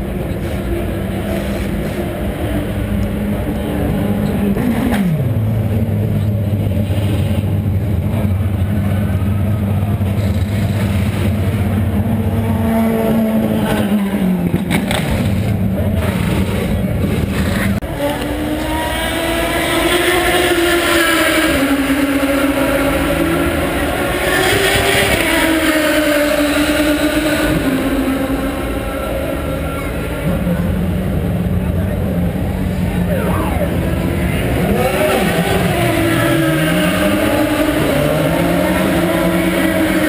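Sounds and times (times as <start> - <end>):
race cars passing at speed: 0.0 - 40.0
racing engine drone: 0.0 - 40.0.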